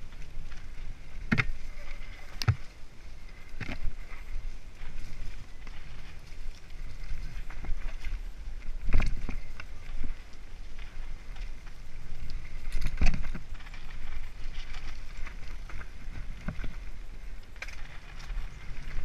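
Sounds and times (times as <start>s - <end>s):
bike rattling over bumps: 0.0s - 19.0s
bike tyres on dirt and stones: 0.0s - 19.0s
wind rumbling on microphone: 0.0s - 19.0s.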